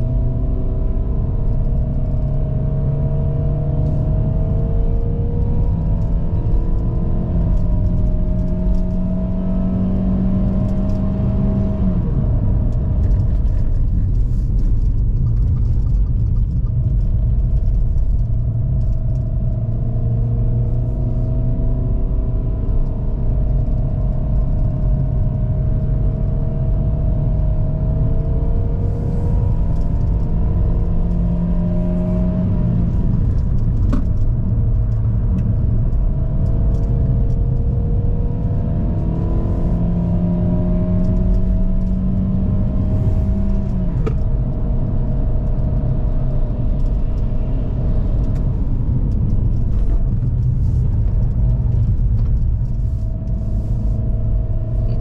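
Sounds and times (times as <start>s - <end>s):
car engine pulling uphill: 0.0s - 55.0s
low road rumble: 0.0s - 55.0s.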